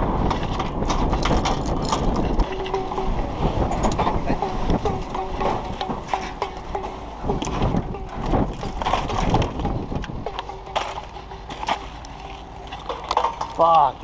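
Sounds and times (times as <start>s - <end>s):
clanks and knocks: 0.0s - 14.0s
steady low rumble: 0.0s - 14.0s.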